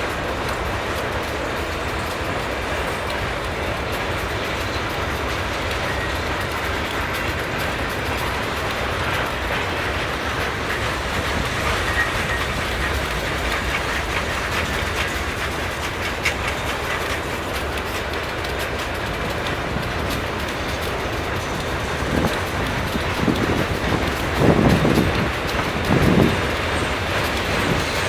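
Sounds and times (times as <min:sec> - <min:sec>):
freight train rumbling past: 0:00.0 - 0:28.0
wheels clacking over rail joints: 0:00.0 - 0:28.0.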